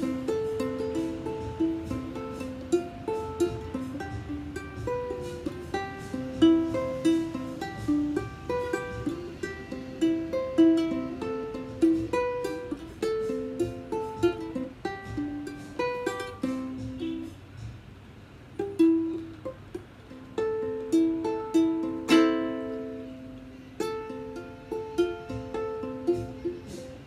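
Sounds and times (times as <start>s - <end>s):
ukulele melody: 0.0s - 27.0s.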